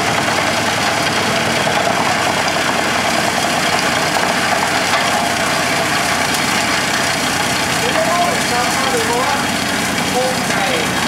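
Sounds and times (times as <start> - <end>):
wood chipper chipping logs: 0.0 - 11.0.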